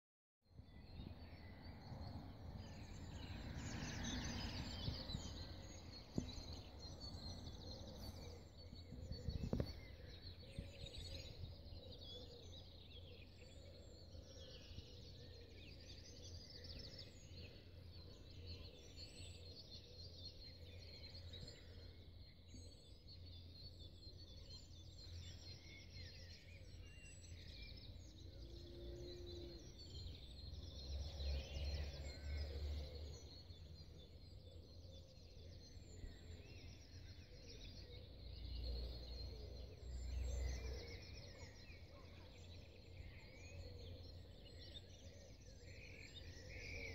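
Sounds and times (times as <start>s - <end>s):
songbirds singing: 0.5s - 46.9s.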